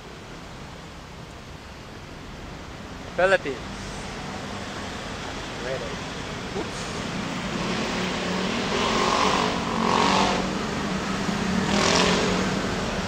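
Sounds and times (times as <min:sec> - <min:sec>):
steady engine hum: 0:00.0 - 0:13.0
vehicles passing: 0:00.0 - 0:13.0.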